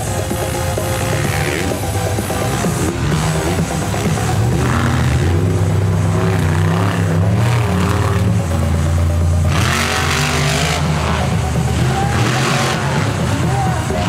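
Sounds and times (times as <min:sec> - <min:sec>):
vehicle engines revving hard: 0:00.0 - 0:14.0.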